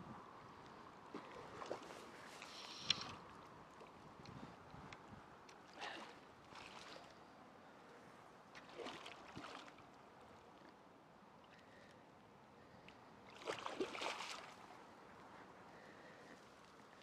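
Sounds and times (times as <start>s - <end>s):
water lapping at pond edge: 0.6s - 17.0s.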